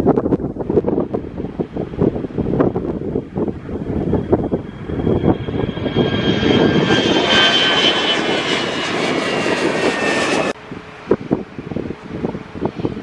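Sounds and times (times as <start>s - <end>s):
wind on microphone: 0.0s - 13.0s
jet engines roaring and whining: 1.2s - 13.0s.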